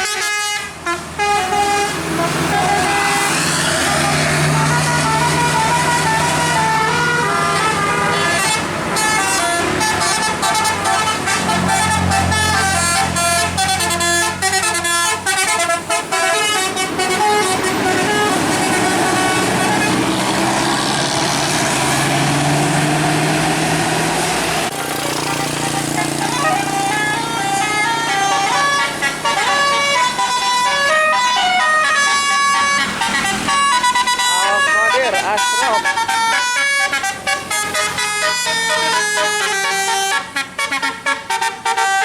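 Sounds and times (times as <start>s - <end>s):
bus engine running: 0.0s - 42.0s
musical bus horn playing a tune: 0.0s - 42.0s.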